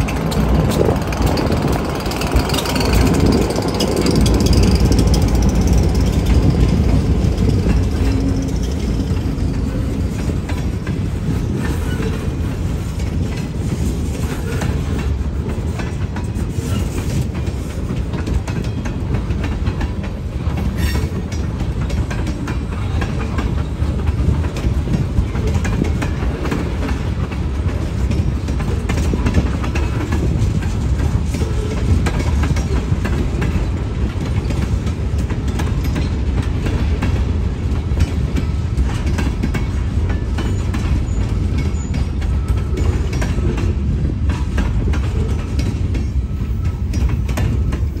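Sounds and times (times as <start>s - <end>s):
freight train rumbling past: 0.0s - 48.0s
wheels clacking over track: 0.0s - 48.0s.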